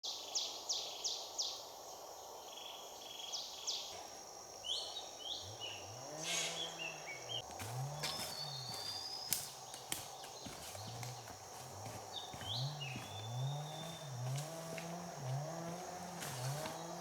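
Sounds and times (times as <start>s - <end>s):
insects hissing: 0.2s - 17.0s
birds chirping: 3.1s - 17.0s.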